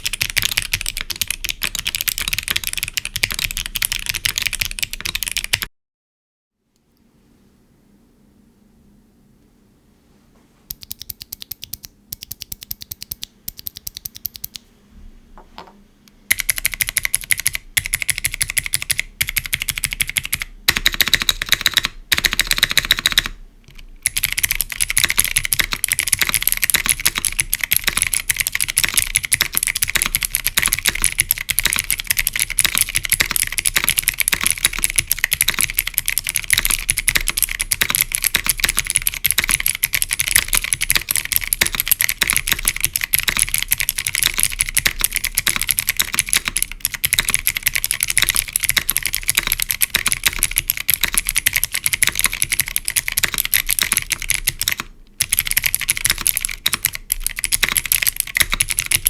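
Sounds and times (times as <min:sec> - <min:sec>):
clicky mechanical keyboard typing: 0:00.0 - 0:05.7, 0:10.7 - 0:14.6, 0:16.3 - 0:59.0.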